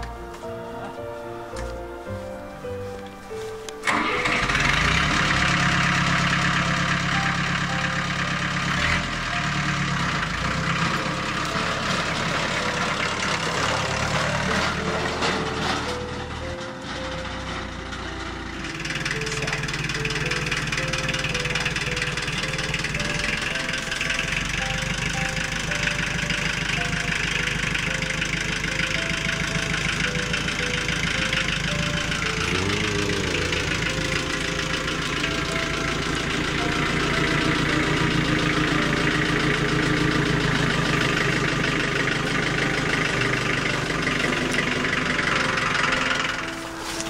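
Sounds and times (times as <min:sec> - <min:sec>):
combustion engine idling: 0:03.8 - 0:47.0.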